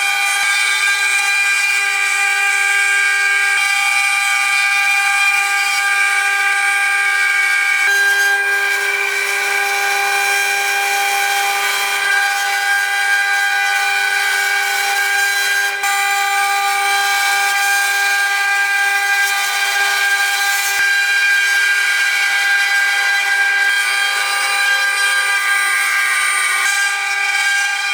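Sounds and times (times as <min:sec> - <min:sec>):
milling machine spindle whine: 0:00.0 - 0:27.9.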